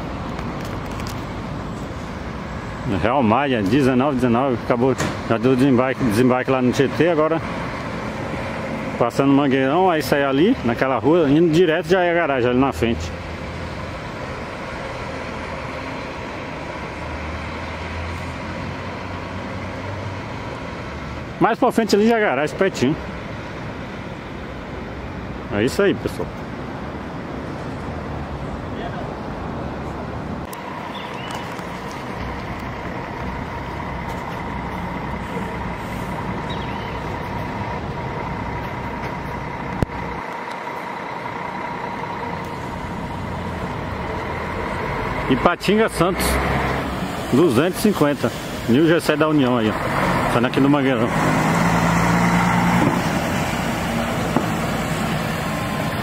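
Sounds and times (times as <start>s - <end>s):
bus engine running: 0.0s - 56.0s
road vehicles rumbling: 0.0s - 56.0s.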